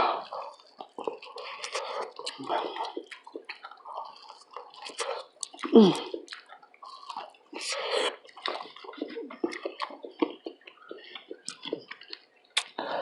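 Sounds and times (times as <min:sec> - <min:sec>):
lip smacks: 0:00.2 - 0:12.8
wet chewing: 0:00.2 - 0:12.8.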